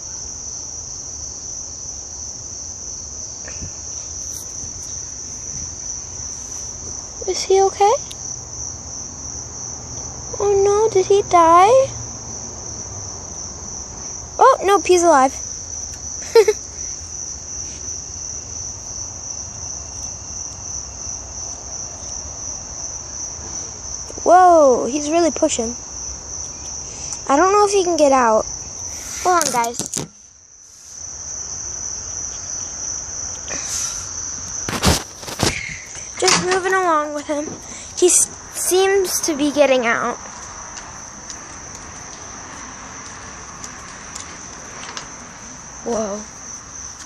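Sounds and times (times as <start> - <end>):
insects trilling: 0.0 - 47.0.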